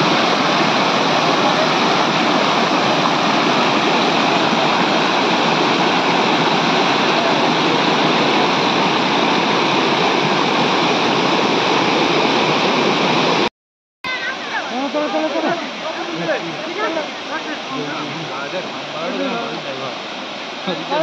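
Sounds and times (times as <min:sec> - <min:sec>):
water rushing over rocks: 0:00.0 - 0:13.5, 0:14.1 - 0:21.0.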